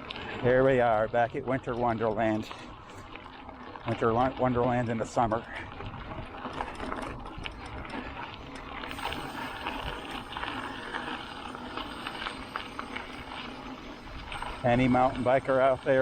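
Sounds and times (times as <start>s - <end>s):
bicycle tyres rolling on dirt: 0.0s - 16.0s
bike clicks and rattles: 0.0s - 16.0s.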